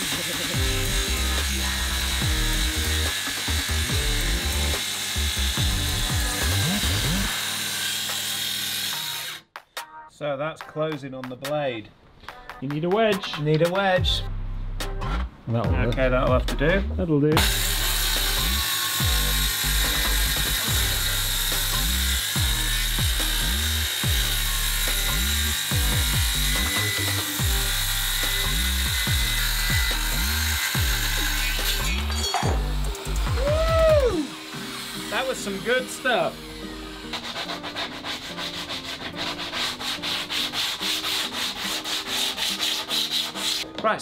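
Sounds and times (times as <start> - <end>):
circular saw cutting wood: 0.0 - 9.5, 17.4 - 43.6
background music with deep bass: 0.3 - 7.4, 12.4 - 41.6.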